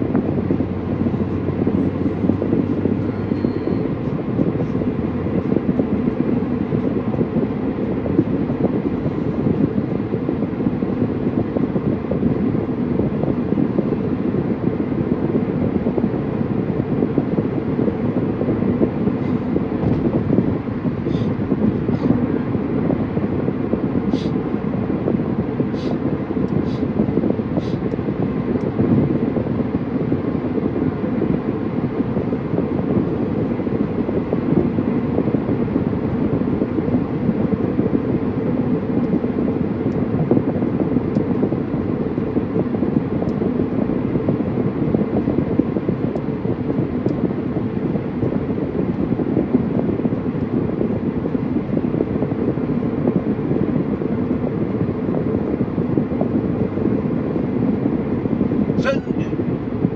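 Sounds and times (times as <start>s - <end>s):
car tyre and engine noise: 0.0s - 59.9s.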